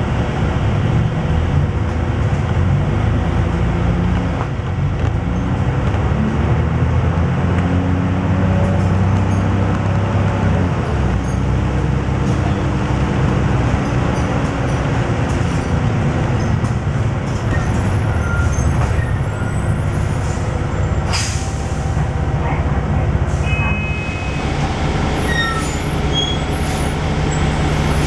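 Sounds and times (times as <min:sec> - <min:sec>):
bus engine drone: 0:00.0 - 0:28.0
road and tyre noise: 0:00.0 - 0:28.0.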